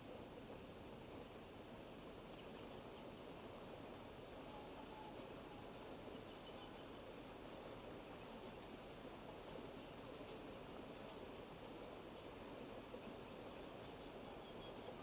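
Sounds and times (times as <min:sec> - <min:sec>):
faint rain: 0:00.0 - 0:15.0.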